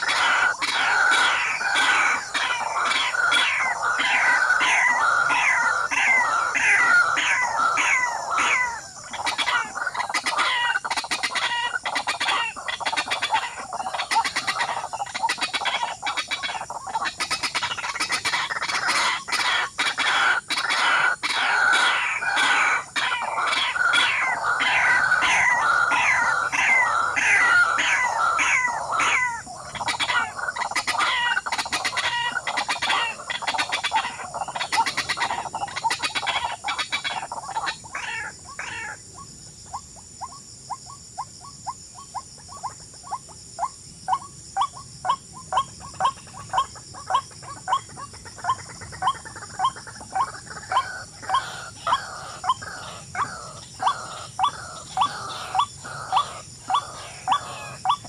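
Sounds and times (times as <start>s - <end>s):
birds chattering harshly: 0.0s - 58.0s.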